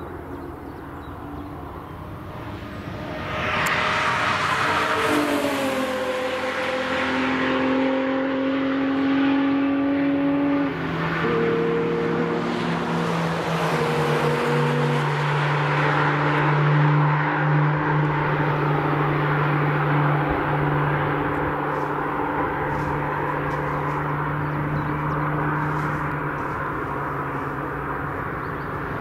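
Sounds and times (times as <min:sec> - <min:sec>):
race car engines droning: 0:00.0 - 0:29.0
race car passing close: 0:00.0 - 0:29.0.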